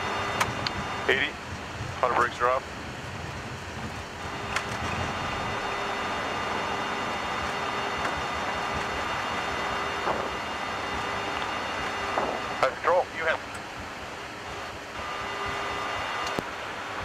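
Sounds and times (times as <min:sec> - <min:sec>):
airflow and engine noise: 0:00.0 - 0:17.0
steady whine: 0:00.0 - 0:17.0.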